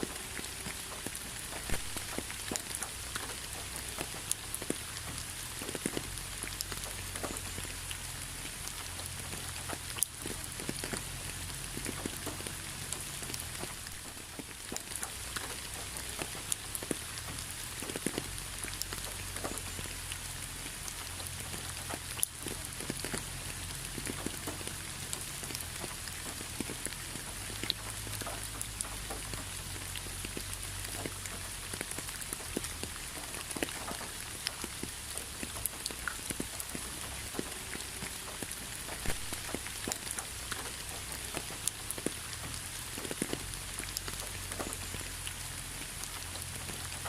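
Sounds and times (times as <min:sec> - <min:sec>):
raindrops ticking: 0:00.0 - 0:47.0
steady rain: 0:00.0 - 0:47.0.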